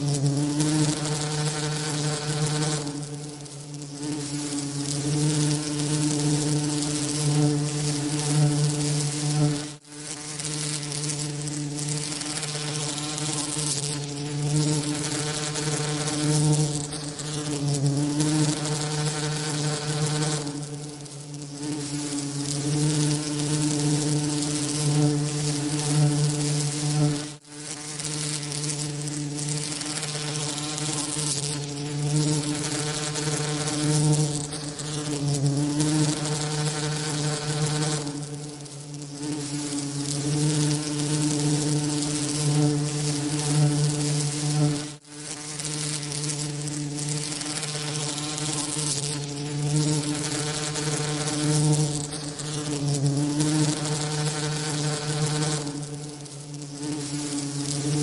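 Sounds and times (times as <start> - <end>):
bee wingbeat buzzing: 0.0 - 58.0.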